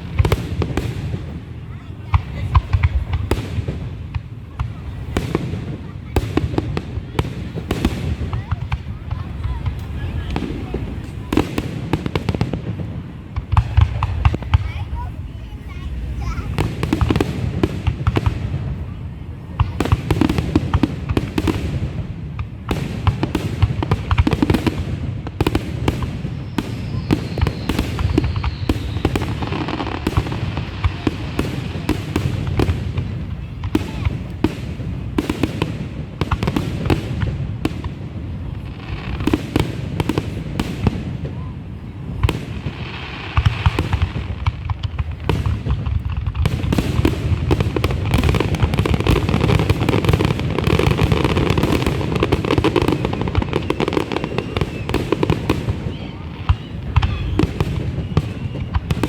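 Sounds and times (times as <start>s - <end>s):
fireworks popping and banging: 0.0s - 59.0s.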